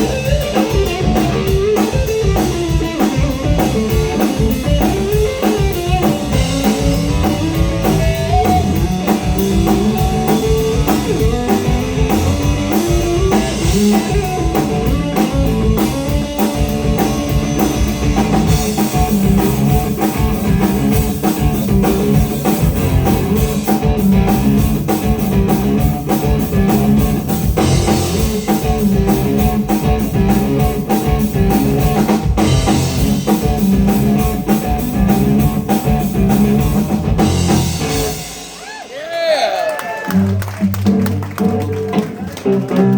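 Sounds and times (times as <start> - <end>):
bass guitar: 0.0 - 42.9
drum kit: 0.0 - 42.9
electric guitar line: 0.0 - 42.9.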